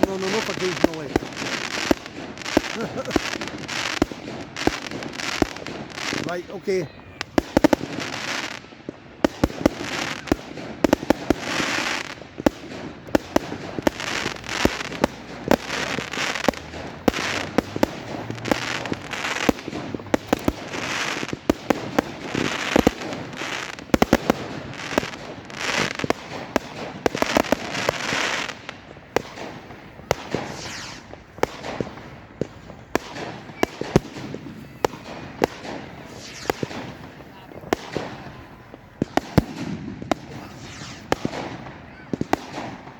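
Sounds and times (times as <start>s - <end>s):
fireworks bangs and crackling: 0.0s - 42.9s
fireworks hissing bursts: 0.0s - 42.9s.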